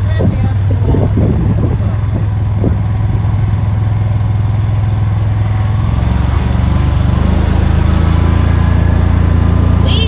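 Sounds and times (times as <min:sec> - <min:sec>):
tractor engine droning: 0:00.0 - 0:10.0.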